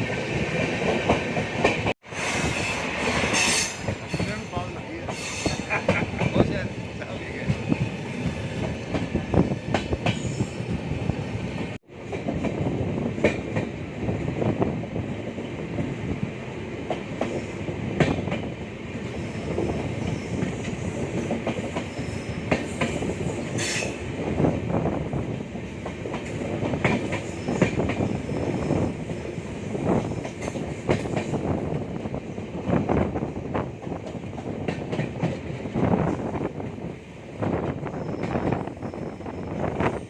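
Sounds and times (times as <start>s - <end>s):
train wheels clattering on rails: 0.0s - 14.6s, 16.8s - 40.0s
train rumble: 0.0s - 40.0s.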